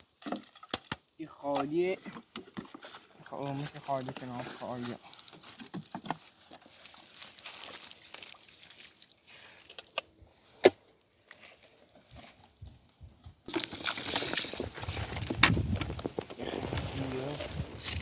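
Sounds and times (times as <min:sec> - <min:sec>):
dry rustling and crunching: 0:00.0 - 0:18.0.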